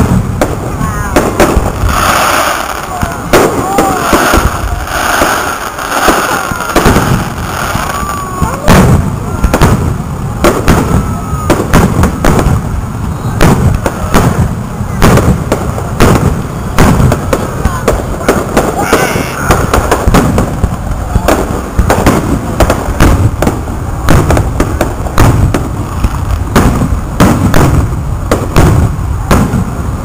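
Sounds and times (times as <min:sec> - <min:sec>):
firework shells bursting: 0:00.0 - 0:29.8.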